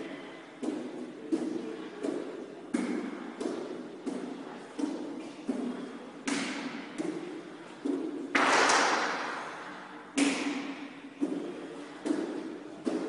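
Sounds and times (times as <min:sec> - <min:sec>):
medicine ball slapping into hands: 0:00.6 - 0:09.5, 0:10.1 - 0:13.0.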